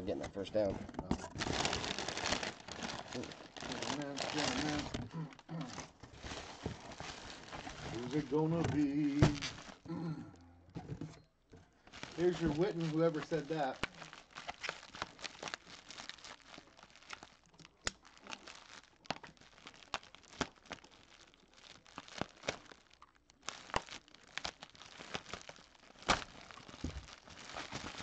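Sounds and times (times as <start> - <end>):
bubble wrap crinkling: 0.6 - 10.0, 11.8 - 28.0.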